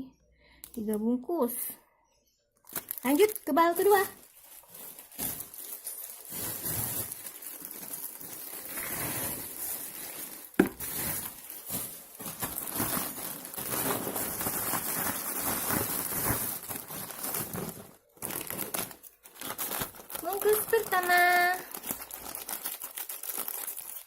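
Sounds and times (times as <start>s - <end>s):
plastic packaging crinkling: 2.6s - 24.0s.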